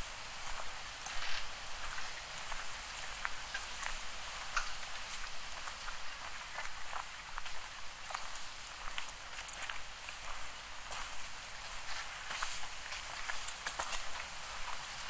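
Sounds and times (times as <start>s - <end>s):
footsteps on a trail: 0.0s - 15.0s
steady hiss: 0.0s - 15.0s.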